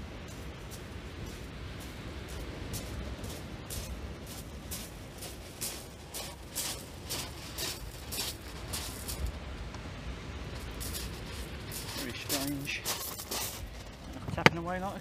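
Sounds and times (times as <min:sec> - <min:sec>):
surf: 0:00.0 - 0:15.0
wind: 0:00.0 - 0:15.0
footsteps crunching on shingle: 0:00.1 - 0:09.4, 0:10.5 - 0:14.7.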